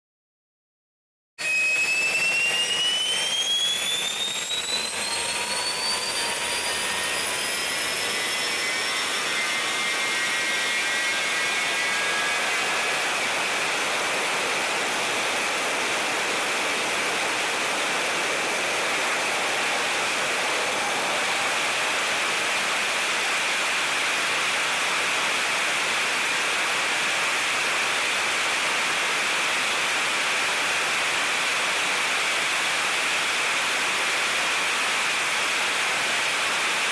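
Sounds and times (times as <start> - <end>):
jet engine rush: 1.4 - 33.7
jet engine whine: 1.4 - 36.9.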